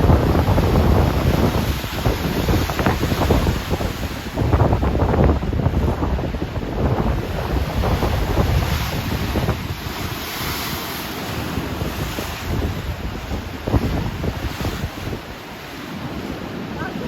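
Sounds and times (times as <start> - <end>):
ocean waves crashing: 0.0 - 17.0
wind buffeting microphone: 0.0 - 17.0.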